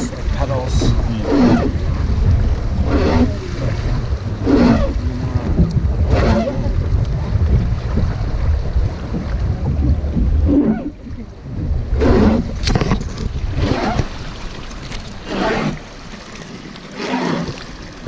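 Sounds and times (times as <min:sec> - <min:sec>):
wind buffeting microphone: 0:00.0 - 0:16.7
oars swishing through water: 0:00.0 - 0:18.0.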